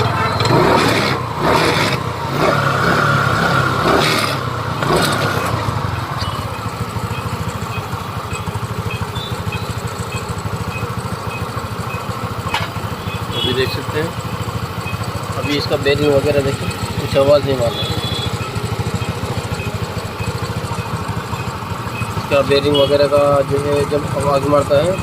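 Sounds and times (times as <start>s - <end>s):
scooter engine revving and idling: 0.0s - 25.0s.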